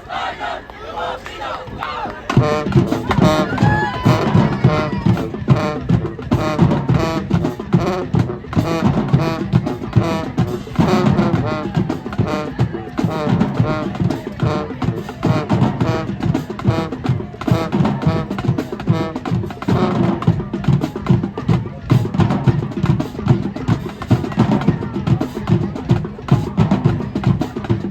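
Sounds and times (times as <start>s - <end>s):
drumline pounding beat: 0.0s - 27.9s
marching band brass: 0.0s - 27.9s.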